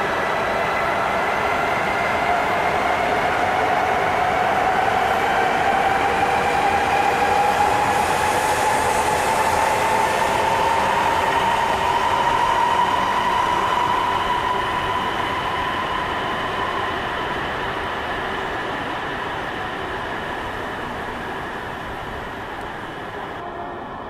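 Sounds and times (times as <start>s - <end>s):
train rolling noise: 0.0s - 24.0s.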